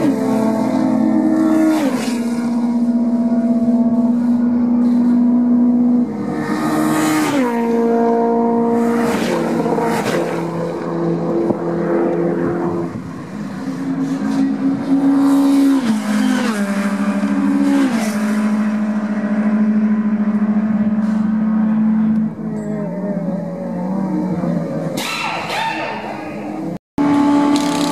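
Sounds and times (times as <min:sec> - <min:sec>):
race car engines at high revs: 0:00.0 - 0:27.9.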